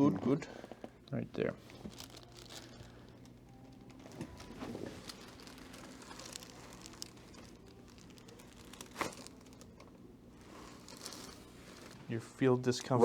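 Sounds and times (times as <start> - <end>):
low steady hum: 0.0 - 13.0
rustling on treatment table: 1.5 - 13.0.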